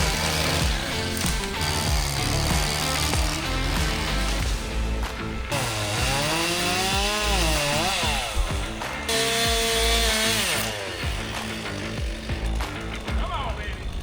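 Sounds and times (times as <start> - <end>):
background music with steady beat: 0.0 - 14.0
chainsaw revving: 0.0 - 14.0.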